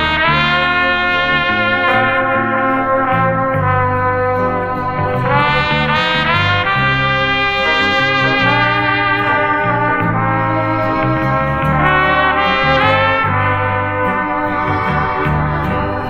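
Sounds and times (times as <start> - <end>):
brass ensemble music with trumpet: 0.0 - 16.0.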